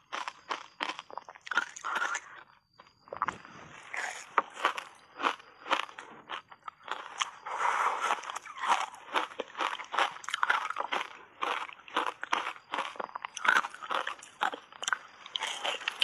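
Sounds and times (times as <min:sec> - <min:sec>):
ice crunching being chewed: 0:00.0 - 0:16.0.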